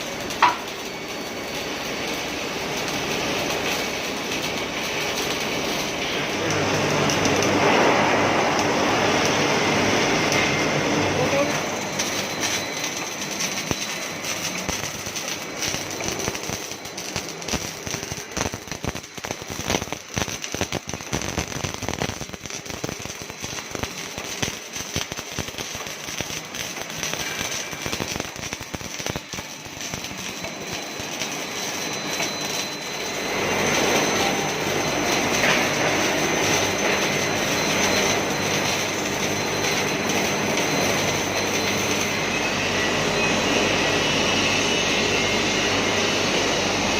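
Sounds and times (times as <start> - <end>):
welding arc crackling: 0.0 - 46.9.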